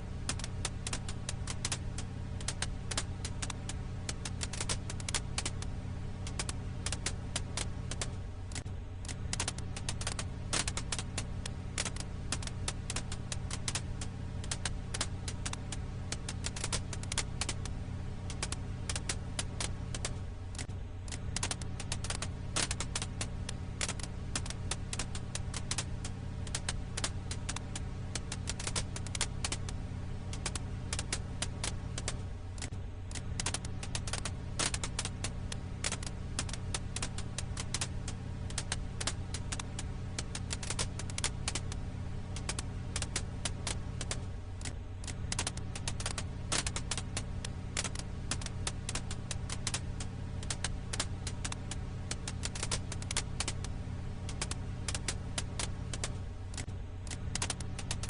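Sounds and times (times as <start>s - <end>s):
firewood crackling in campfire: 0.0s - 58.0s
steady low hum: 0.0s - 58.0s.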